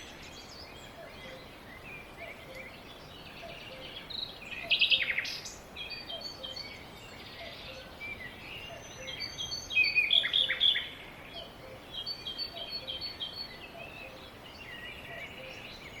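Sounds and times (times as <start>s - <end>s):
background hiss: 0.0s - 16.0s
small birds chirping: 0.0s - 16.0s.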